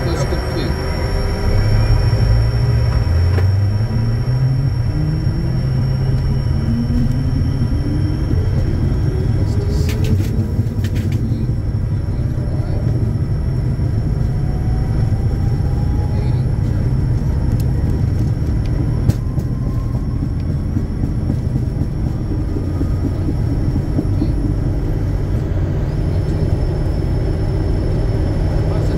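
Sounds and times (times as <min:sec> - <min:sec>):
jet engine rumble on takeoff: 0:00.0 - 0:28.9.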